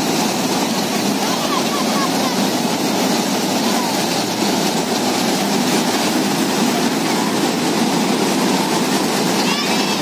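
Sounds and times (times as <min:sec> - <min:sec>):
fairground din: 0:00.0 - 0:10.0.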